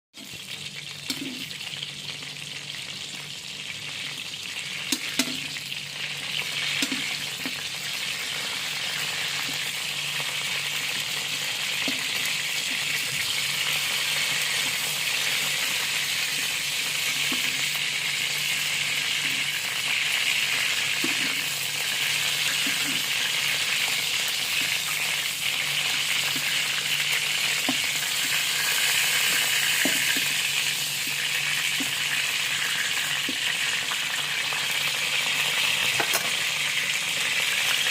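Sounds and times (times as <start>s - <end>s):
chicken frying in hot oil: 0.2s - 37.9s.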